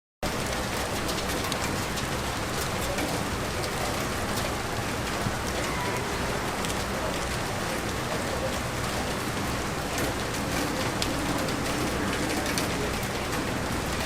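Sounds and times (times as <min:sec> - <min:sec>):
rain pattering: 0:00.2 - 0:14.0.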